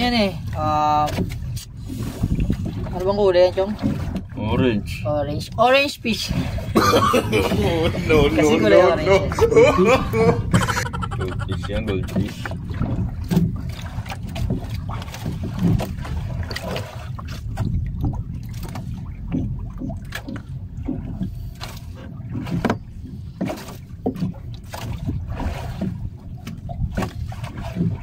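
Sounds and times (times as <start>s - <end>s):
water slapping against boat hull: 0.0s - 28.0s.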